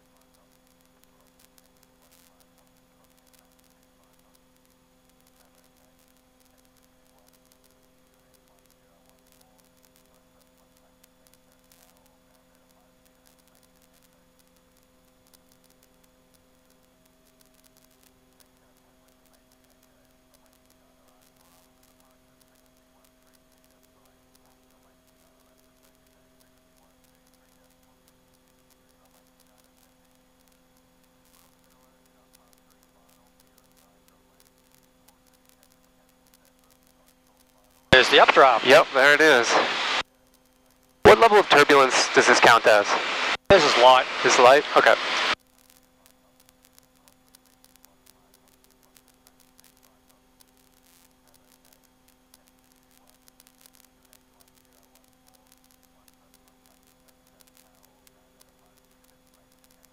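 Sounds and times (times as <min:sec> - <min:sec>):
faint steady hum: 0:00.0 - 0:59.9
light hiss and static: 0:00.0 - 0:59.9.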